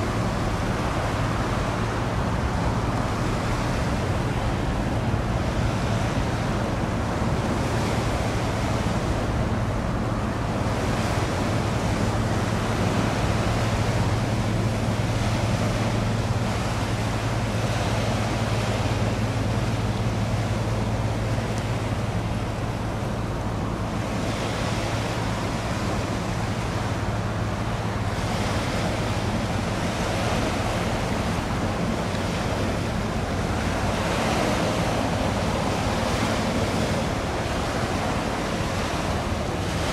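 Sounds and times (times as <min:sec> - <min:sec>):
water washing against shore: 0:00.0 - 0:39.9.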